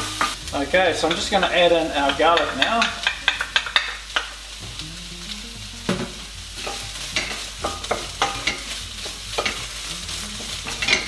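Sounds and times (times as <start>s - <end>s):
wooden spoon scraping wok: 0.0s - 4.8s, 5.9s - 11.0s
vegetables sizzling in a wok: 0.0s - 11.0s.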